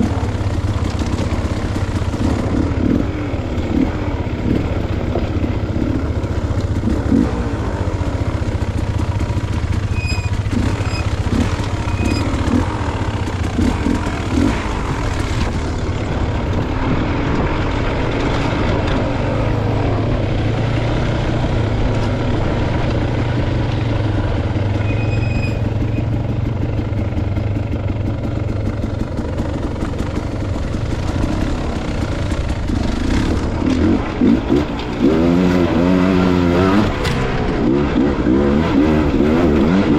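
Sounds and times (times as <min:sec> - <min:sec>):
dirt bike engine revving: 0:00.0 - 0:26.5, 0:29.8 - 0:39.9.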